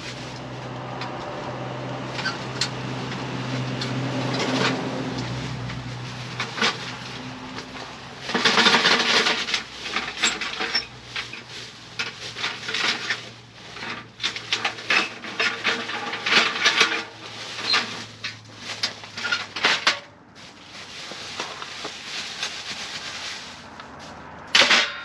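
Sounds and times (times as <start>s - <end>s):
objects clattering and knocking: 2.1s - 23.5s, 24.4s - 25.0s.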